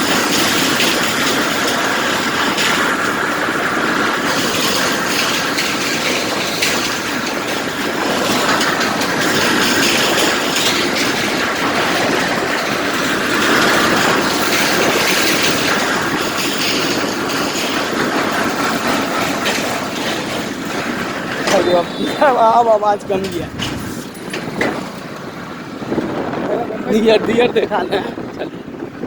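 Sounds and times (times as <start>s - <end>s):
steel deck rattling and clanking: 0.0s - 29.0s.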